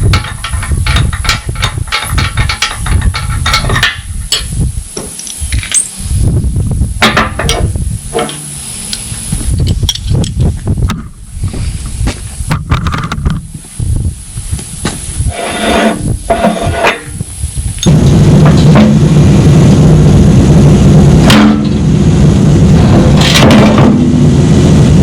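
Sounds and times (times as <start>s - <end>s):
welder arc crackling: 0.0s - 10.9s, 12.3s - 25.0s
low rumble: 0.0s - 25.0s.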